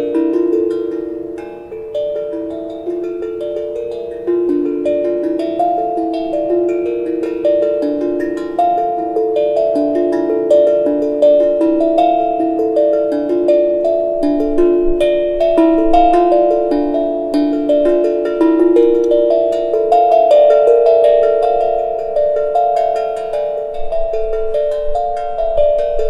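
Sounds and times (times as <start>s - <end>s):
steel tongue drum notes: 0.0s - 26.0s.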